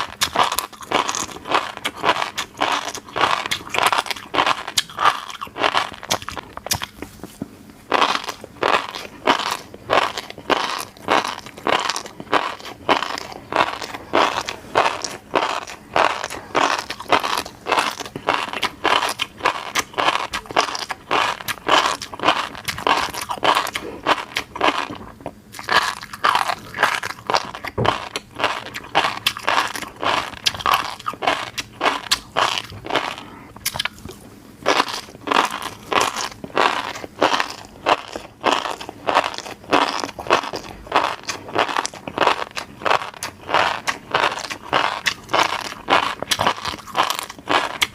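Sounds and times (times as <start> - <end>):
wet crunchy chewing: 0.0 - 47.9.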